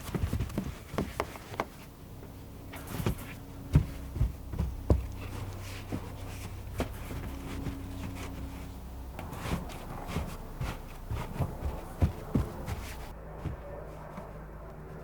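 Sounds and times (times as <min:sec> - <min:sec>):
dull thumps and knocks: 0:00.0 - 0:13.7
low steady hum: 0:00.0 - 0:15.0.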